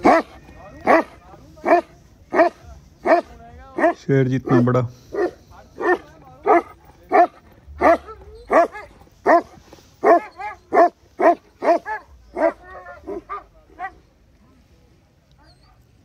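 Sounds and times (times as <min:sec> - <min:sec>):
dog barking: 0:00.0 - 0:14.0.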